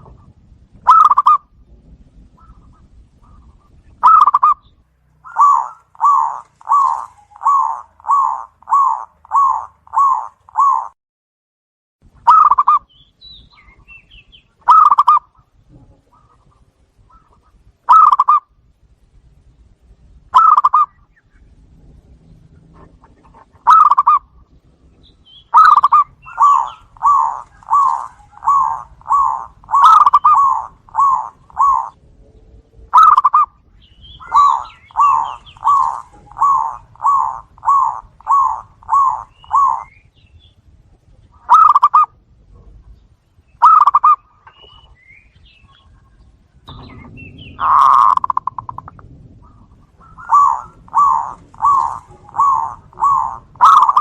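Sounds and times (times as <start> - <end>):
doves cooing: 0.0 - 1.5, 2.2 - 11.0, 12.2 - 12.9, 14.6 - 18.6, 20.3 - 43.0, 43.6 - 54.0.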